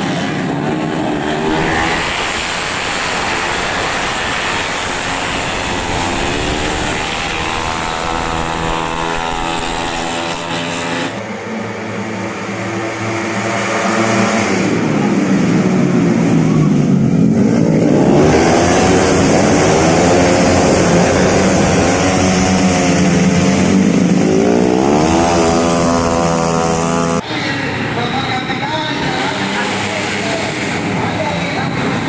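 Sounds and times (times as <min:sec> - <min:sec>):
racing scooter engines revving: 0:00.0 - 0:32.0.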